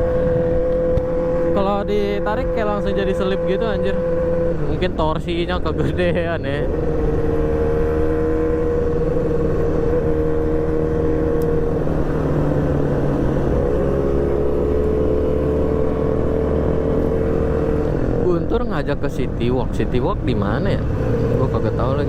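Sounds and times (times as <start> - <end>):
motorcycle engine running: 0.0 - 19.0
road and wind noise: 0.0 - 22.0.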